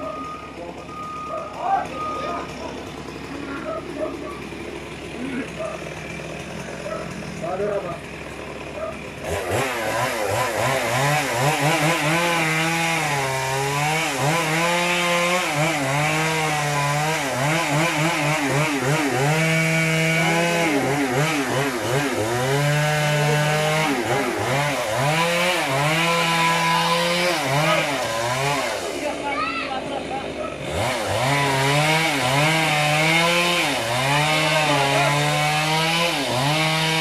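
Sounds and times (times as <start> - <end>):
chainsaw cutting tree trunk: 0.0 - 37.0.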